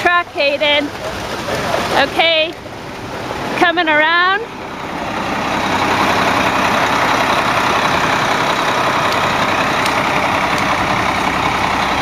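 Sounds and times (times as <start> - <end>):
concrete mixer truck running: 0.0 - 12.0.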